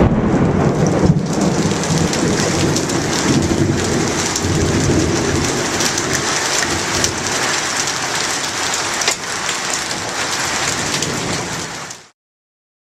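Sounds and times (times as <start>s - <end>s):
low rumble of thunder: 0.0s - 11.9s
heavy rain pelting down: 0.0s - 12.2s.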